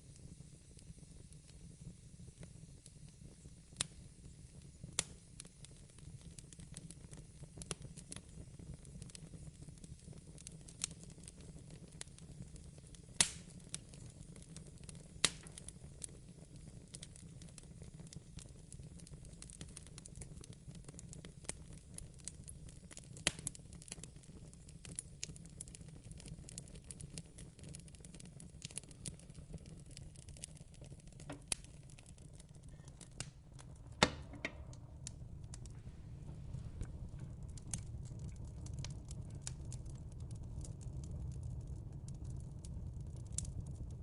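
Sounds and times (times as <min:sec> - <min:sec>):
low rumble of flames: 0:00.0 - 0:44.0
wood fire crackling: 0:00.0 - 0:44.0.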